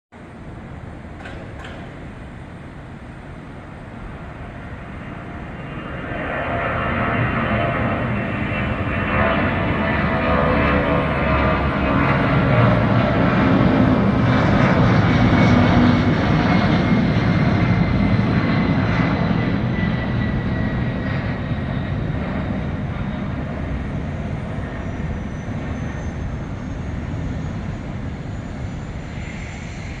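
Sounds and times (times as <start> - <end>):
high engine whine: 0.1 - 30.0
jet engines roaring: 0.2 - 30.0.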